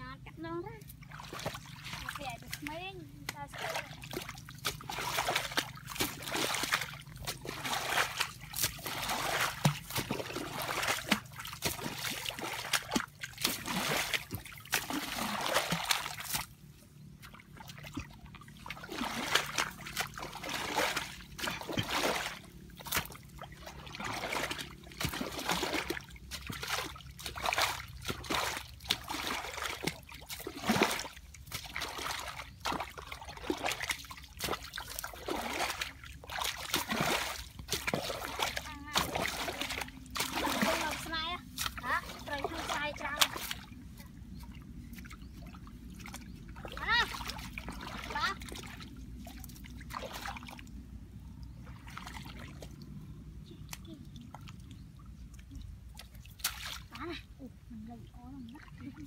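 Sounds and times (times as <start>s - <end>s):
water splashes: 0.9s - 59.0s
water trickling: 0.9s - 59.0s.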